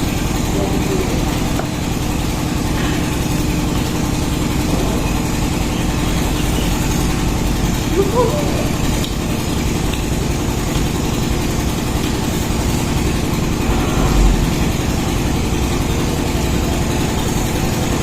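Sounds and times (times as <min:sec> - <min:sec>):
machine engine droning: 0:00.0 - 0:18.0.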